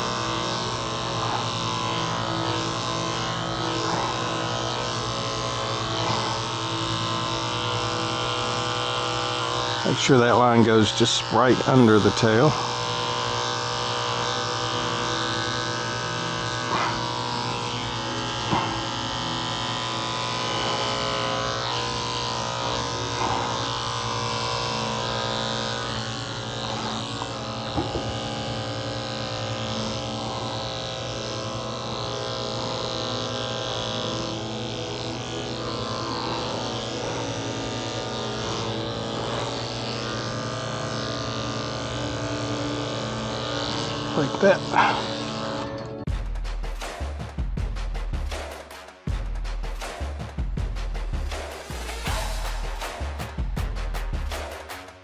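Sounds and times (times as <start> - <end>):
electric clippers humming: 0.0 - 55.0.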